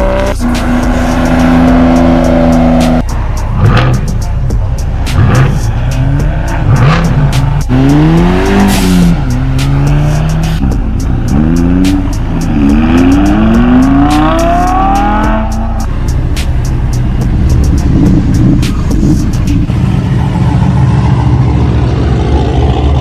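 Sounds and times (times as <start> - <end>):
music beat: 0.0 - 21.1
car engine revving: 0.0 - 23.0.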